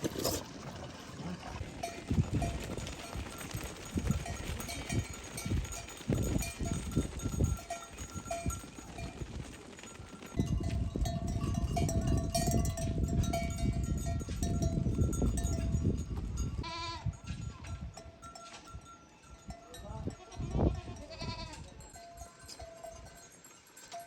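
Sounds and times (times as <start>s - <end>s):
livestock bells clinking: 1.6s - 24.0s.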